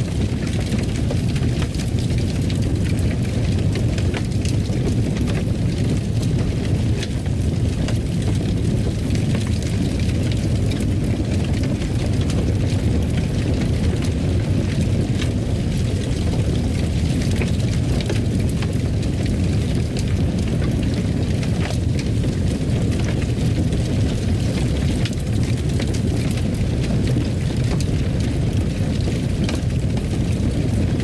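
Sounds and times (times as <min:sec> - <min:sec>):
fire crackling: 0:00.0 - 0:31.0.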